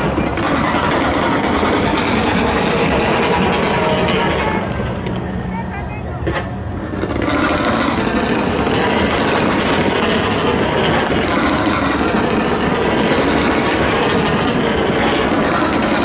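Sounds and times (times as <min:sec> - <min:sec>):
fireworks crackling: 0:00.0 - 0:16.0
fireworks rumbling: 0:00.0 - 0:16.0.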